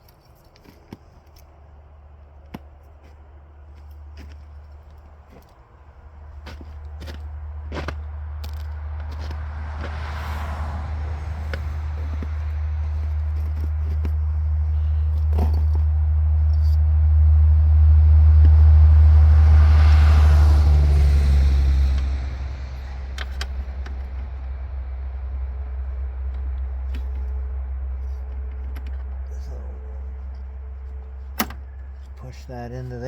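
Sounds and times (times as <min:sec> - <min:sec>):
passing vehicle rumble: 0:01.4 - 0:33.0.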